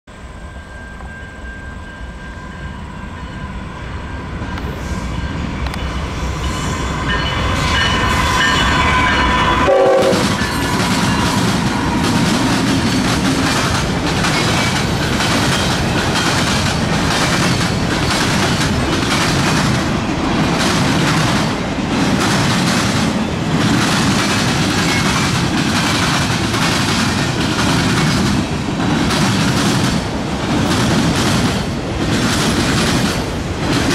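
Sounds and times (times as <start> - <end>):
diesel freight train passing: 0.1 - 33.9
train wheels clacking over crossing: 4.4 - 33.9.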